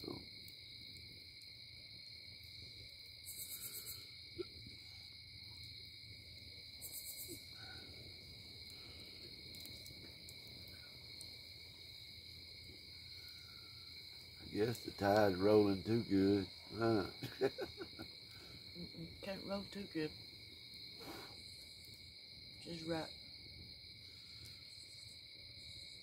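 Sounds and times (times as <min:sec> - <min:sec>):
night insects chirring: 0:00.0 - 0:26.0.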